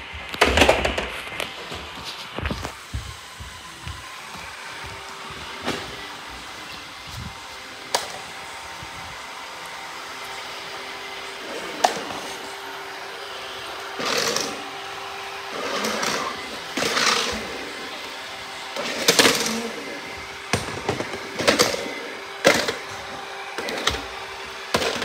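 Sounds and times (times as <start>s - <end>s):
robot floor cleaner motor hum: 0.0s - 25.0s.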